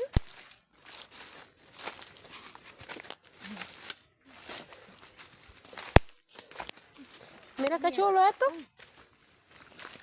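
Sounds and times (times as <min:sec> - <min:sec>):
rustling and crinkling: 0:00.0 - 0:10.0.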